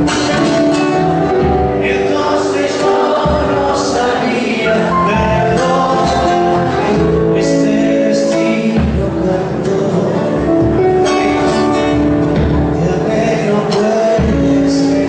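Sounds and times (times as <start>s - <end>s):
acoustic guitar: 0.0s - 15.0s
drum kit beat: 0.0s - 15.0s
male singer: 0.0s - 15.0s.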